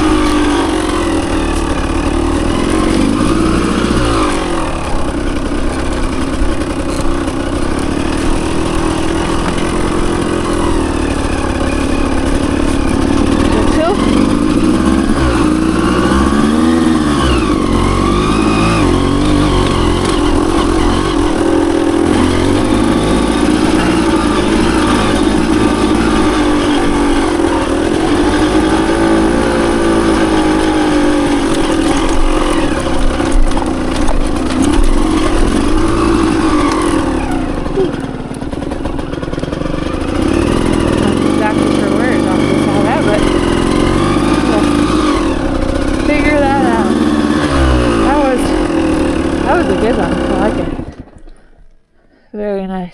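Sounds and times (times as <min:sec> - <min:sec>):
dirt bike engine revving: 0:00.0 - 0:51.5.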